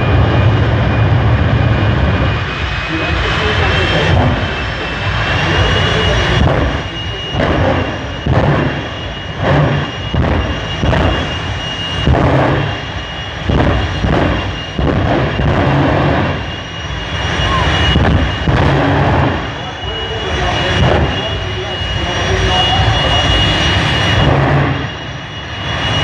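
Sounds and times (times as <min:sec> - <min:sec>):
racing car engine whining: 0:00.0 - 0:26.0.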